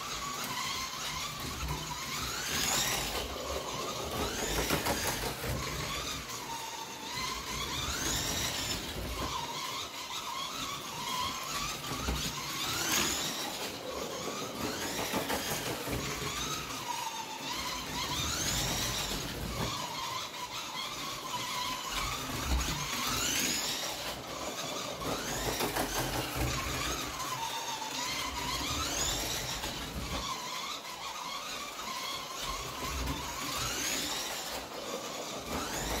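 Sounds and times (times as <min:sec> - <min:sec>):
slot car motor whining: 0:00.0 - 0:36.0.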